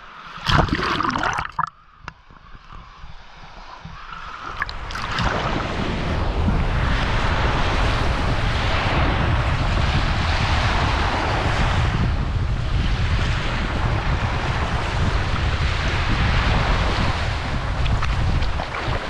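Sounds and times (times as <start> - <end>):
small surf washing up a beach: 0.0 - 19.0
wind rumbling on microphone: 0.0 - 19.0.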